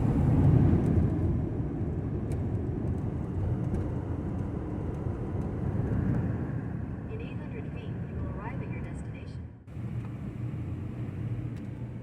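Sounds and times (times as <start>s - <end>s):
van road and engine rumble: 0.0s - 12.0s.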